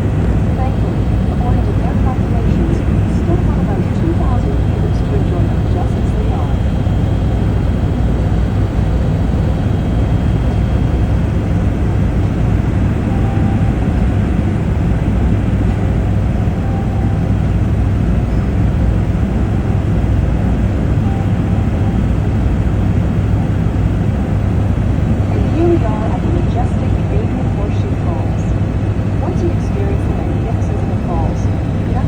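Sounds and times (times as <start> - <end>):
helicopter engine and rotor drone: 0.0 - 32.0.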